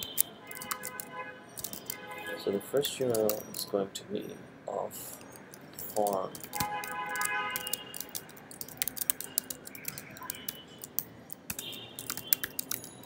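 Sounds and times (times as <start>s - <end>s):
keyboard typing: 0.0s - 2.1s, 2.8s - 3.8s, 5.1s - 13.0s.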